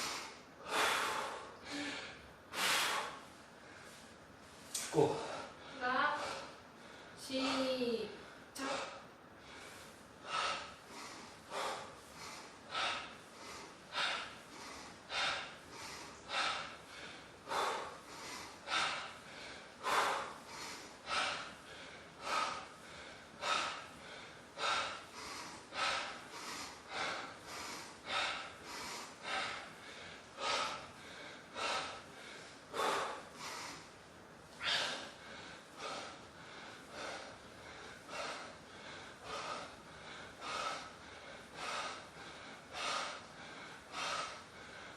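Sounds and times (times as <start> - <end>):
man breathing hard: 0.0 - 44.9.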